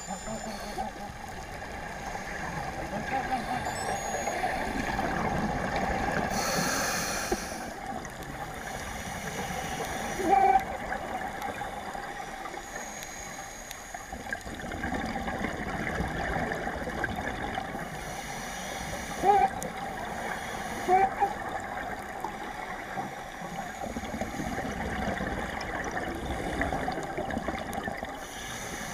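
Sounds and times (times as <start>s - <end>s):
gurgling water and breathing bubbles: 0.0s - 28.9s
muffled underwater noise: 0.0s - 28.9s.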